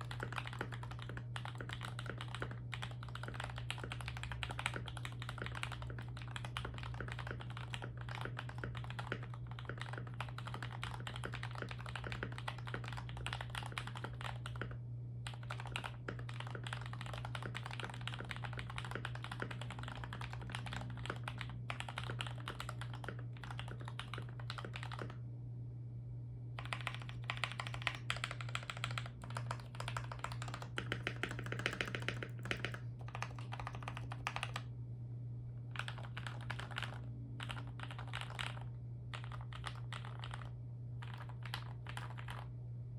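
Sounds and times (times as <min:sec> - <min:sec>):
fast typing on mechanical keyboard: 0:00.0 - 0:25.2, 0:26.6 - 0:34.7, 0:35.7 - 0:42.5
steady low hum: 0:00.0 - 0:42.9.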